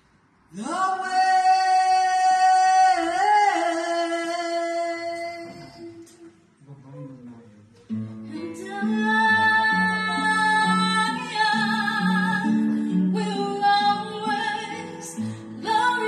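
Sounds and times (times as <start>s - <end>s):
woman singing with vibrato: 0.6s - 6.4s, 8.3s - 16.0s.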